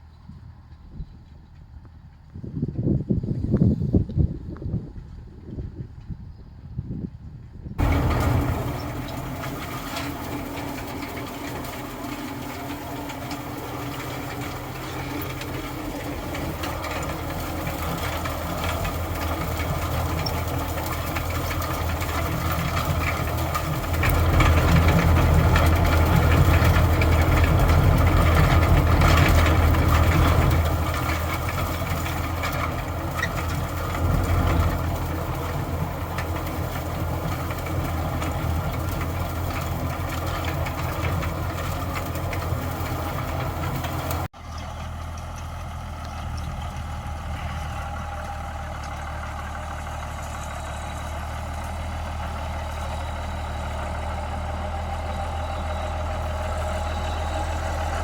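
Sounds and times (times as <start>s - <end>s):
tractor diesel engine running: 7.8s - 58.0s.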